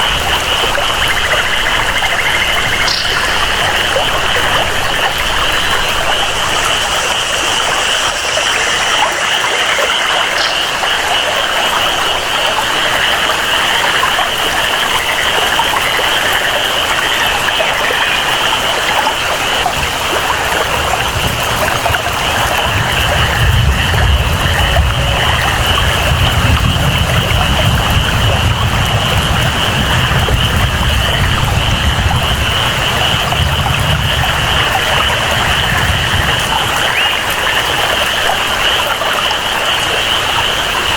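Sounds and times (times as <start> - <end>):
flowing water: 0.0 - 40.9
frogs chorus: 0.0 - 40.9
steady rain: 0.0 - 40.9.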